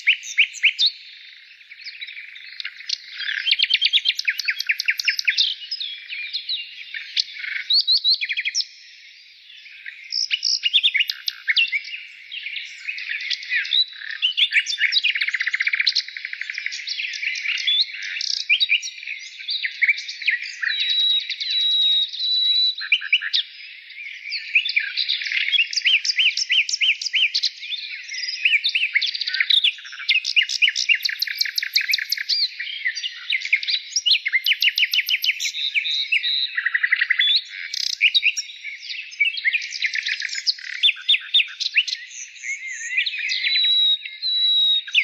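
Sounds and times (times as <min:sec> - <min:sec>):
songbirds chirping and trilling: 0:00.0 - 0:45.0.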